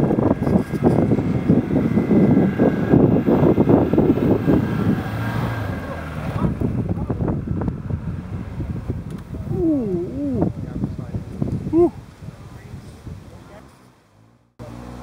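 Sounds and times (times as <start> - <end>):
wind buffeting microphone: 0.0 - 13.9
off-road vehicle engine running: 0.0 - 15.0.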